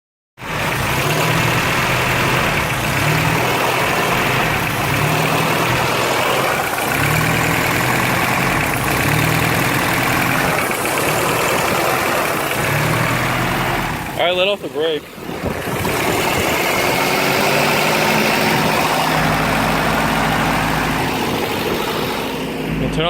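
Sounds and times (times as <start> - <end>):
car engine idling: 0.4 - 23.0.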